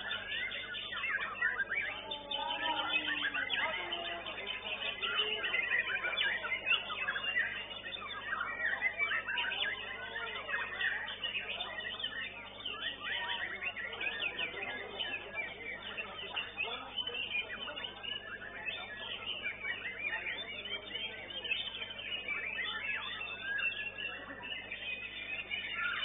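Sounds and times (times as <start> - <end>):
birds singing whistles and chirps: 0.0 - 26.0.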